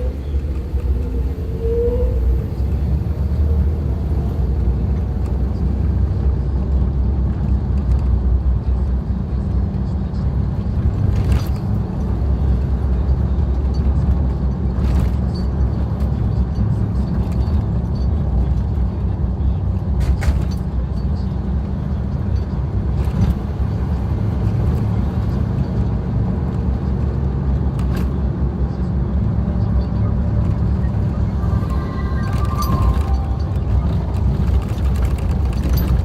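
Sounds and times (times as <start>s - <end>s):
engine and tyres on gravel rumbling: 0.0s - 36.0s.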